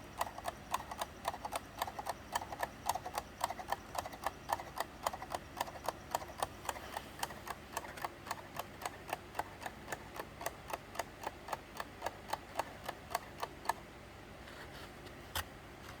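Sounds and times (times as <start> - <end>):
clock ticking: 0.0 - 13.8.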